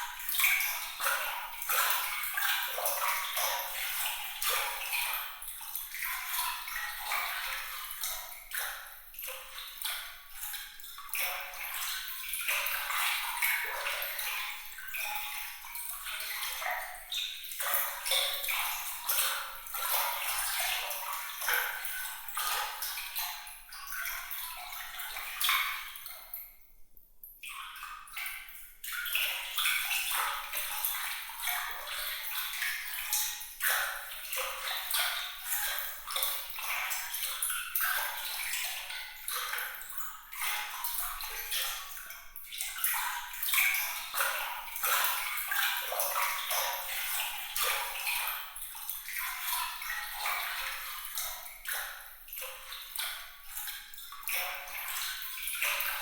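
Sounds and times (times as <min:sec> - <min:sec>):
water trickling and splashing: 0:00.0 - 0:26.7, 0:27.4 - 0:56.0.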